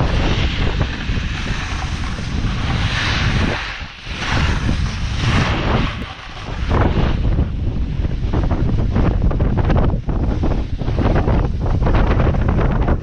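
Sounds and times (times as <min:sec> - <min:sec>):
snowboard scraping over snow: 0:00.0 - 0:13.0
wind buffeting microphone: 0:00.0 - 0:13.0.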